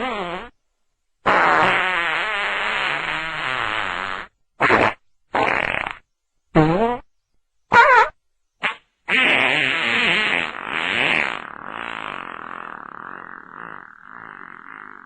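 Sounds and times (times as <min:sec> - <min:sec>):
farting: 0:00.0 - 0:00.5, 0:01.2 - 0:07.1, 0:07.7 - 0:15.0.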